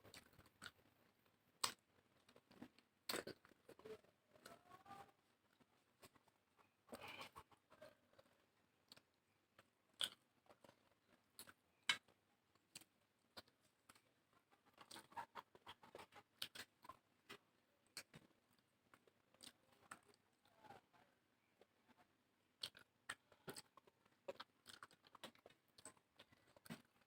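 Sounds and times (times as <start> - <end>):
person chewing food: 0.0 - 20.4, 21.6 - 27.0.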